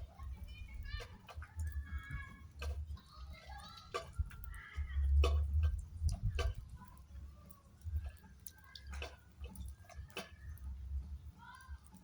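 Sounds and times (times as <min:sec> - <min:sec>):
raindrops ticking on hard surface: 0:00.0 - 0:12.0.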